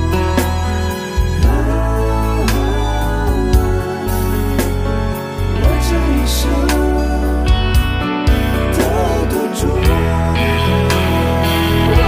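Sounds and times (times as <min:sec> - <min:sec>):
slow ballad backing music: 0:00.0 - 0:12.0.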